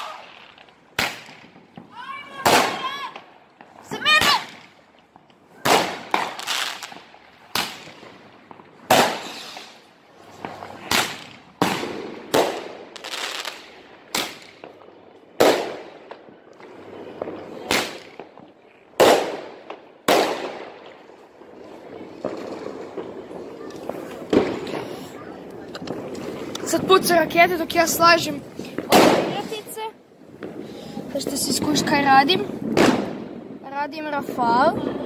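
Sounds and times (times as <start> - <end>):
fireworks bangs with echo: 0.0 - 35.0.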